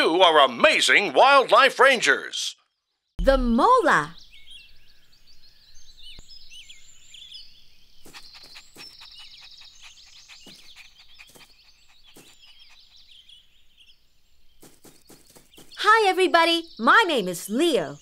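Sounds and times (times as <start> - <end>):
small birds chirping: 2.6 - 18.0.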